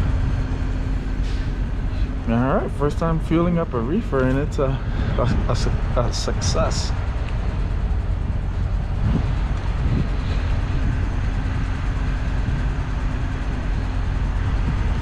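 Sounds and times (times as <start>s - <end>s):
diesel engine idling: 0.0s - 15.0s
faint steady hum: 0.0s - 15.0s.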